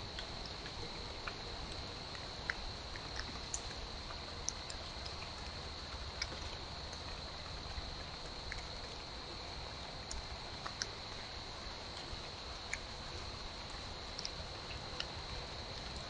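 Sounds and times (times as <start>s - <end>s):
faint ticks and clicks: 0.0s - 16.0s.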